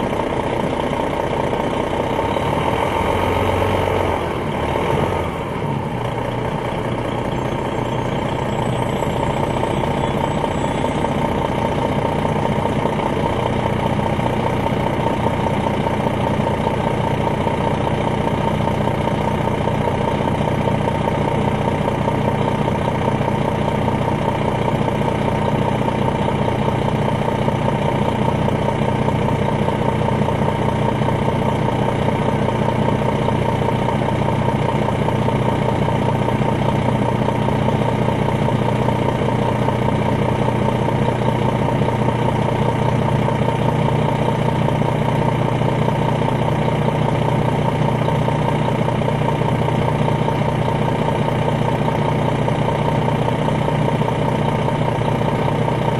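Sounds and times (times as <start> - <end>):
bus engine running: 0.0 - 55.9
constant whine: 5.3 - 55.9.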